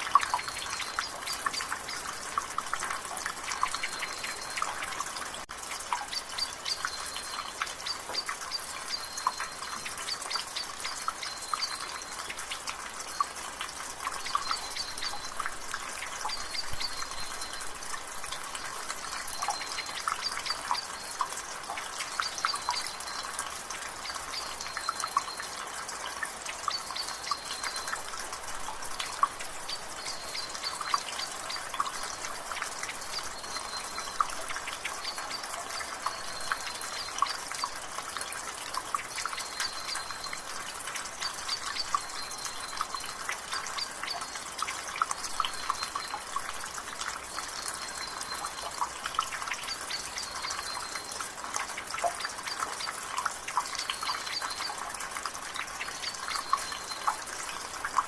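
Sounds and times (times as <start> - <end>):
water dripping from gutter: 0.0 - 58.0.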